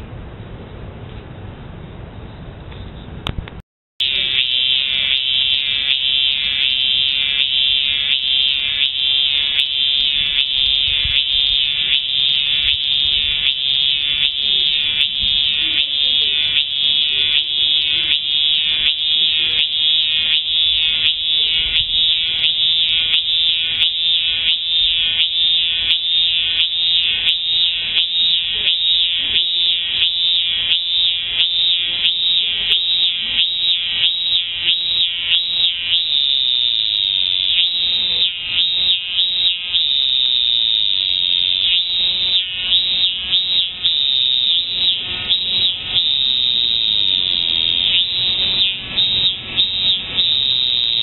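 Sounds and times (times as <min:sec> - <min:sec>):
cicada buzzing: 0:04.0 - 0:51.0.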